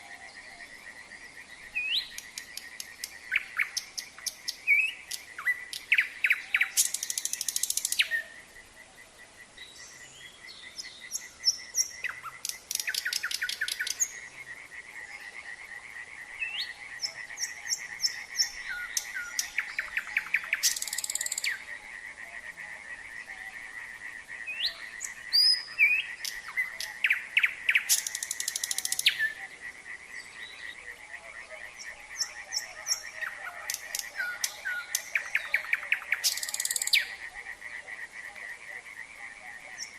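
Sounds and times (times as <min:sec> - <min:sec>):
frogs chorus pulsing: 0:00.0 - 0:39.9
nightingale singing: 0:00.0 - 0:39.9.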